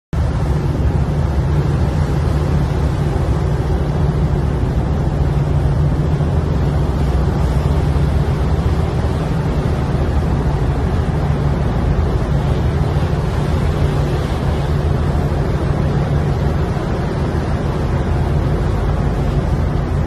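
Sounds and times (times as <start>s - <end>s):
boat engine rumbling: 0.1s - 20.0s.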